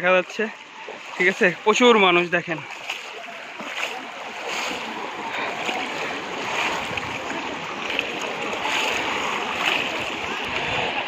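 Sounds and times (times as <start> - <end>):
people wading through shallow water: 0.0 - 11.0
small splashes: 0.0 - 11.0.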